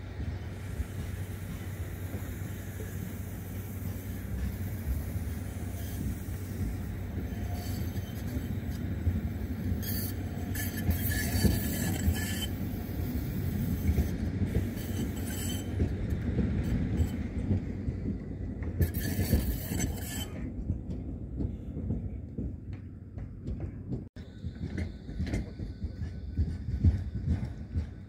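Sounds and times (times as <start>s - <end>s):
tram wheels rumbling on rail: 0.0s - 28.0s.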